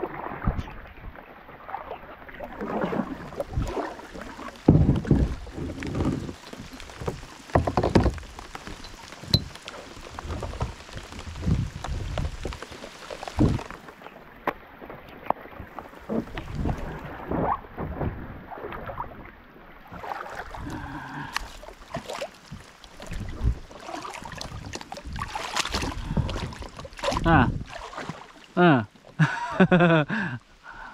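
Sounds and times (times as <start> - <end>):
shallow water splashing: 0.0 - 30.0.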